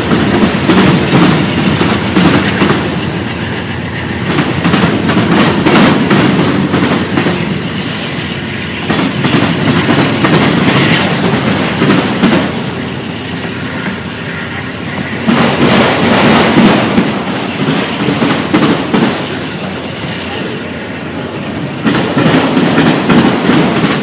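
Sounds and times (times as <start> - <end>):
train wheels clacking over rail joints: 0.0 - 24.0.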